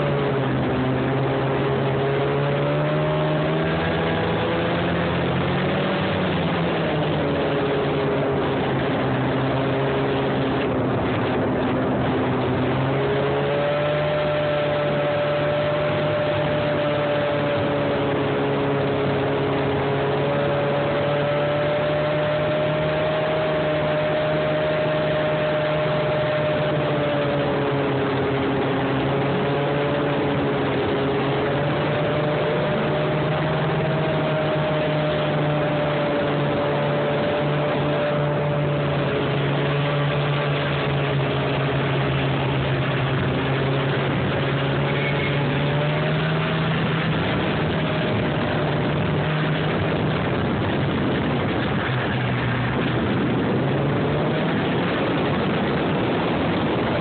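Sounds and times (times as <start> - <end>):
snowmobile engine running: 0.0 - 57.0
steady rushing noise: 0.0 - 57.0.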